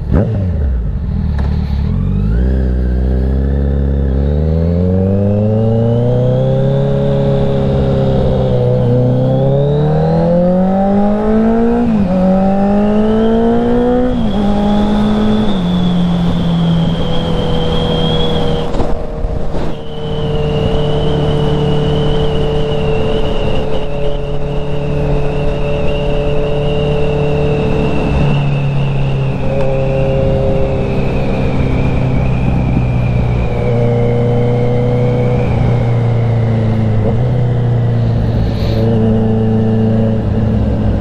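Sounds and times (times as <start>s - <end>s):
motorcycle engine accelerating: 0.0s - 41.0s.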